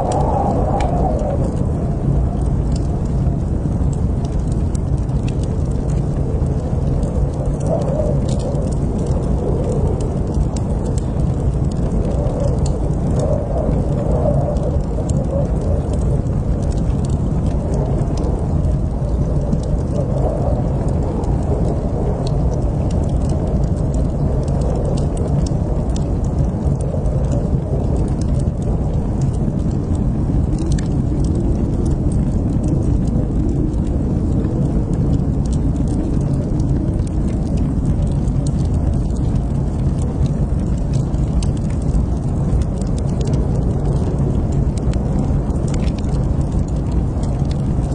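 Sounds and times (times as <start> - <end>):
fire crackles and pops: 0.0 - 47.9
wood fire roaring: 0.0 - 47.9.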